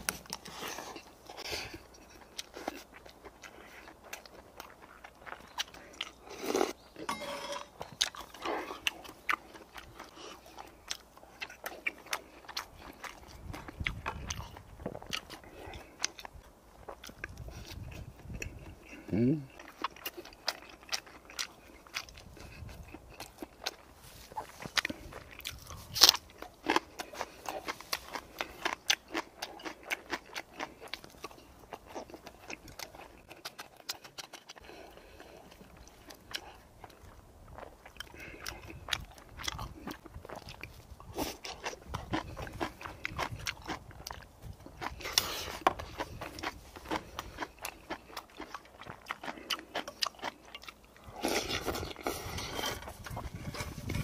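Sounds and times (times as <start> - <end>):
man chewing and crunching food: 0.0 - 54.0.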